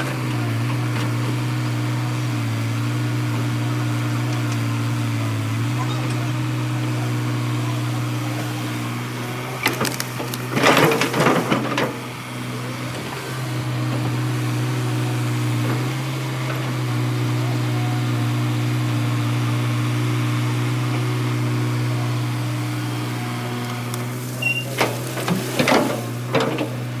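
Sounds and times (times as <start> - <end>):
excavator diesel engine drone: 0.0 - 27.0
rough bursts of engine noise: 0.0 - 27.0.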